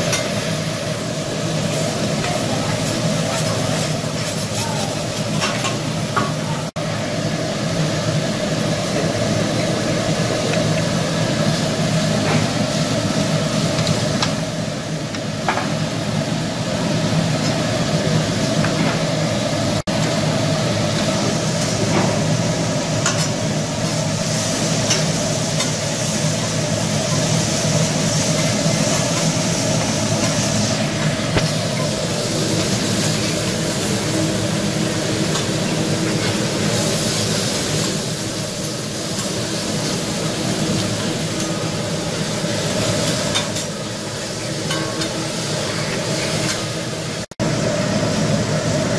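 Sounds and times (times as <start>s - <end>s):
food sizzling on a griddle: 0.0s - 48.9s.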